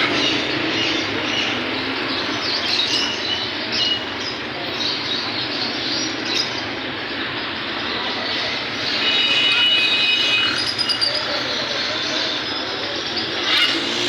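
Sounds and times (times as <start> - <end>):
caged birds chirping: 0.0 - 14.0
dense background noise: 0.0 - 14.0.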